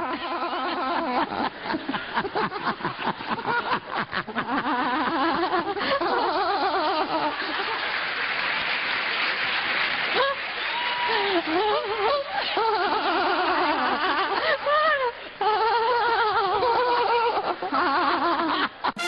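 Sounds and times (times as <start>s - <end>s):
audience laughter and applause: 0.0s - 19.0s.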